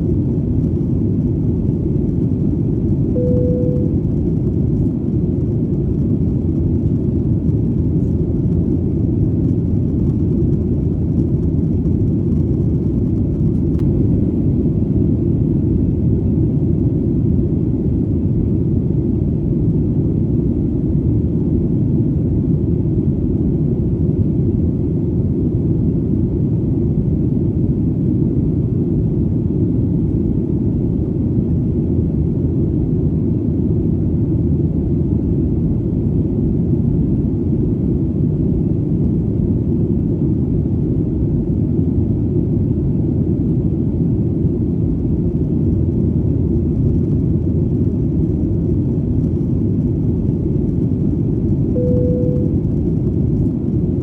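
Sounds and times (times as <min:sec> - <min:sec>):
airplane engine and airflow rumble: 0:00.0 - 0:54.0.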